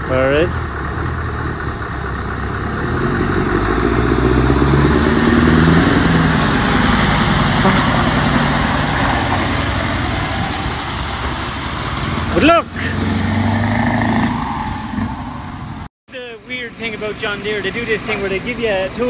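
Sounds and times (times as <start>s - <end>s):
truck diesel engine roaring: 0.0s - 19.0s.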